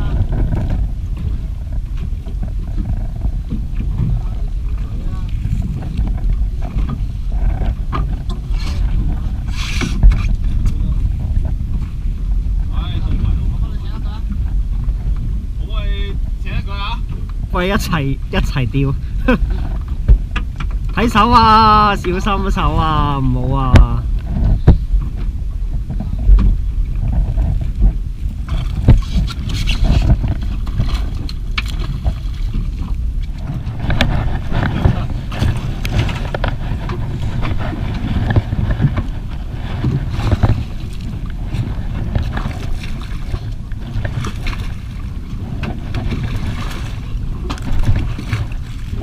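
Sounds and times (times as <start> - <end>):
water slapping against hull: 0.0 - 49.0
wind buffeting microphone: 0.0 - 49.0.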